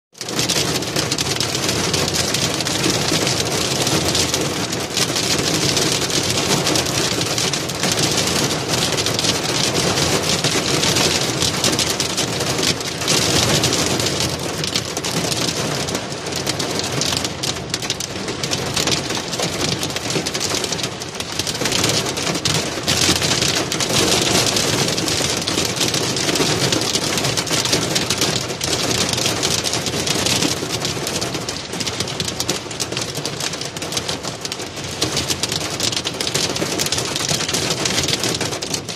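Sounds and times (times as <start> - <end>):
heavy rain on windshield: 0.2 - 38.9.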